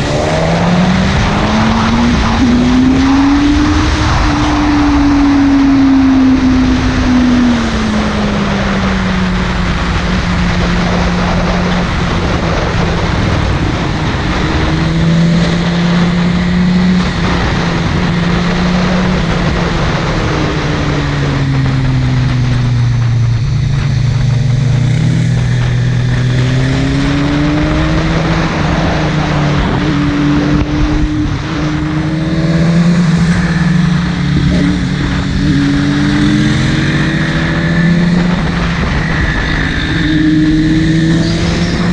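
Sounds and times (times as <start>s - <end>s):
motorcycle engine revving: 0.0s - 41.9s
steady rush of noise: 0.0s - 41.9s.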